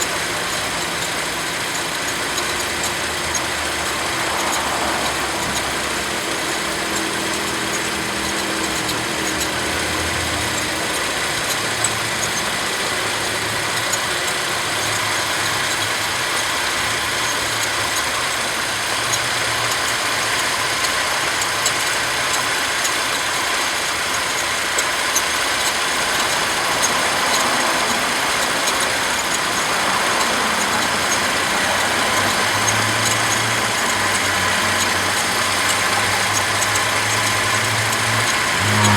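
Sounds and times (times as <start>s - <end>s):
belt chirping: 0.0s - 38.9s
car engine idling: 0.0s - 38.9s.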